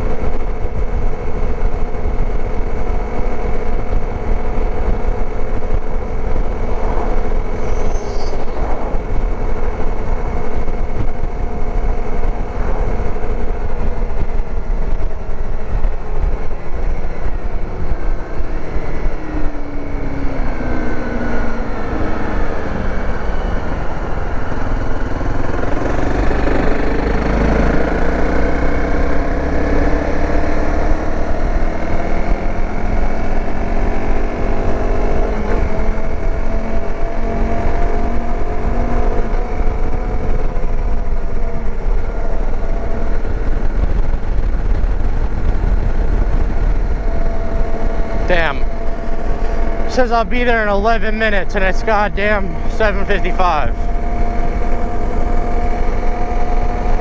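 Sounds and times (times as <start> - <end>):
dirt bike engine: 0.0 - 57.0
wind noise on microphone: 0.0 - 57.0.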